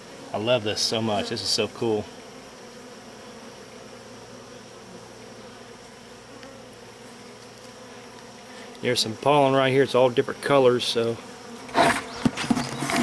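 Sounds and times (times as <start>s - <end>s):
bees humming and buzzing: 0.0s - 13.0s.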